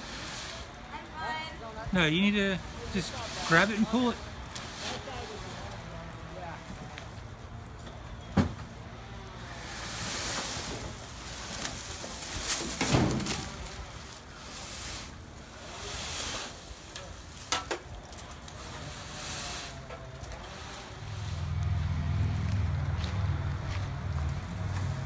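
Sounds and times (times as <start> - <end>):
pine branches rustling and crackling: 0.0 - 8.2, 8.9 - 25.0.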